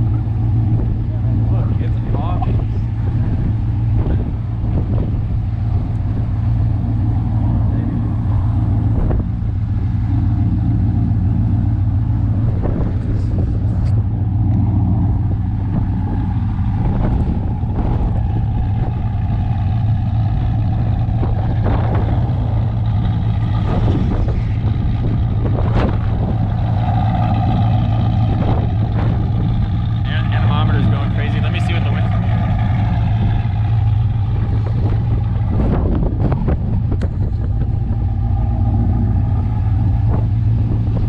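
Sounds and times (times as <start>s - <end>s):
storm wind buffeting microphone: 0.0s - 41.0s.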